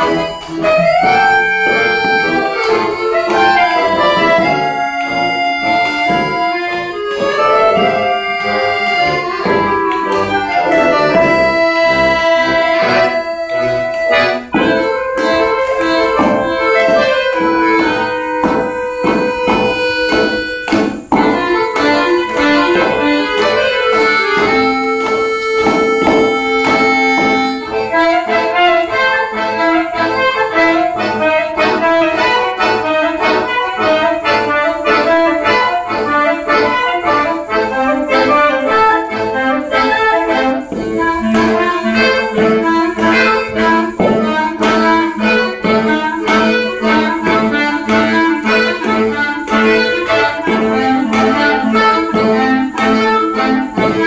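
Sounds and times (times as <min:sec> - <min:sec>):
accordion: 0:00.0 - 0:54.0
wind ensemble playing folk tune: 0:00.0 - 0:54.0.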